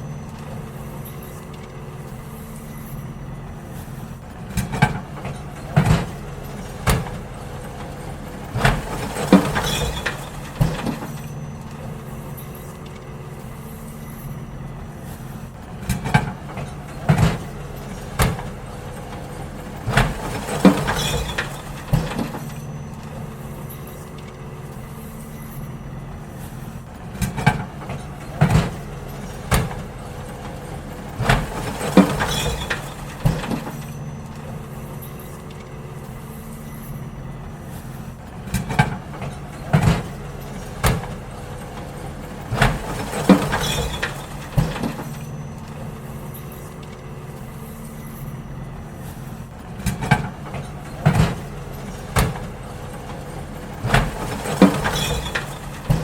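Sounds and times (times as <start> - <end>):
bins banging and clattering: 0.0 - 56.0
garbage truck engine running: 0.0 - 56.0.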